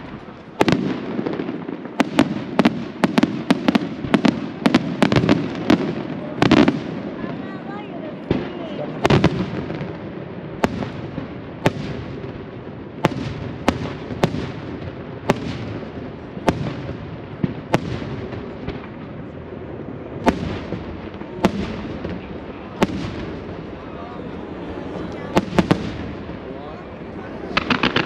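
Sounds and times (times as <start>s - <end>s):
fireworks bursting: 0.0s - 28.0s
steady fireworks rumble: 0.0s - 28.0s.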